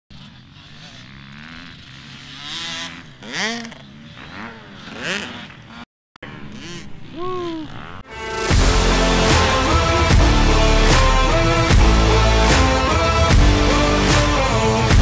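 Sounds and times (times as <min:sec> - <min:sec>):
dirt bike engines revving: 0:00.1 - 0:15.0.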